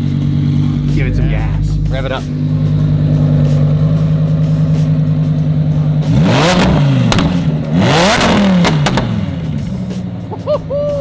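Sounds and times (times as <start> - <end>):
exhaust crack: 0.0 - 10.5
sports car engine idling and revving: 0.0 - 11.0.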